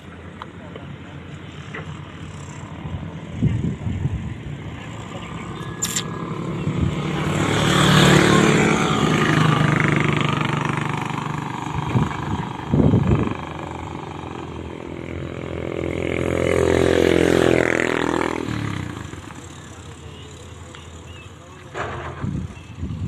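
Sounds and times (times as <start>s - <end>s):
motorcycle passing: 0.0s - 23.0s
vehicles passing: 0.0s - 23.0s.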